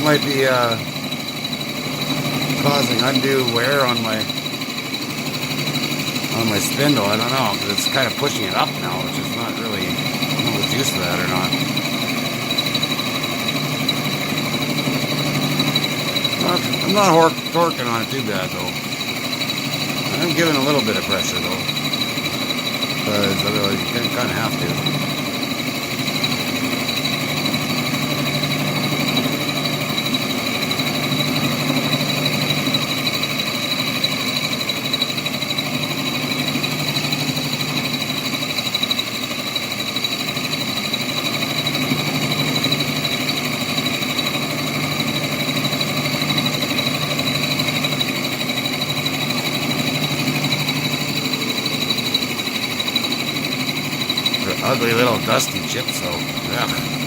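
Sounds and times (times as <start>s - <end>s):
metal lathe milling drone: 0.0s - 57.0s.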